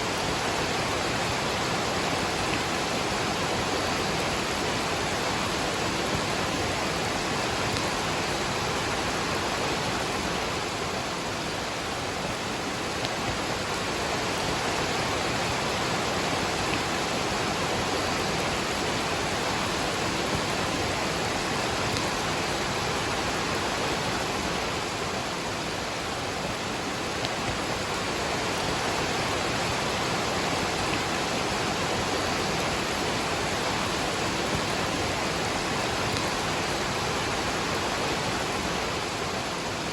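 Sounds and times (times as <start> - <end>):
falling rain: 0.0 - 39.9
waterfall rushing: 0.0 - 39.9.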